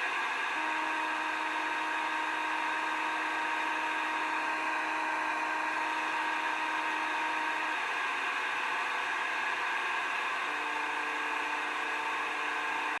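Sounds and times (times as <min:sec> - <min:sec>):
buzzing hiss on radio: 0:00.0 - 0:13.0.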